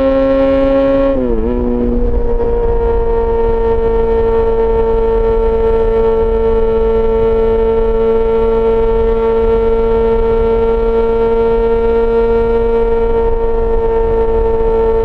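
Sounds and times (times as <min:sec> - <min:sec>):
motorcycle engine droning: 0:00.0 - 0:15.0
road rumble: 0:00.0 - 0:15.0
wind noise: 0:00.0 - 0:15.0.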